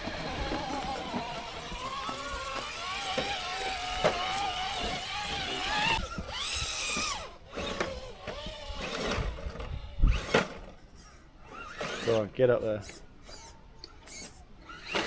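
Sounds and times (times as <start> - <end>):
electric motor and gearbox whining: 0.0 - 15.0.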